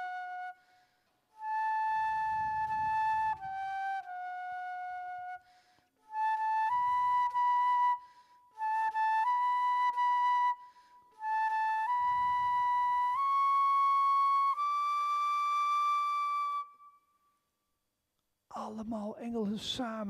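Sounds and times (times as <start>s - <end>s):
flute playing slow melody: 0.0s - 17.3s.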